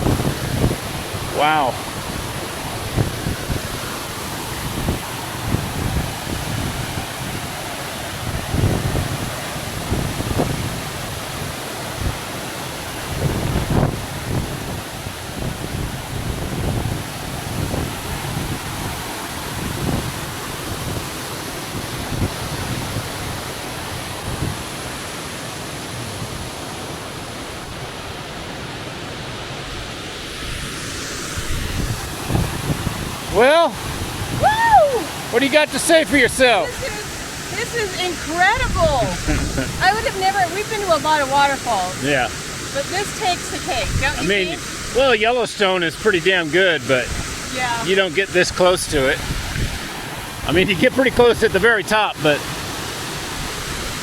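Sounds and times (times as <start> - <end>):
wind buffeting microphone: 0.0 - 28.1, 29.5 - 45.4, 46.8 - 54.0
waterfall rushing: 0.0 - 54.0.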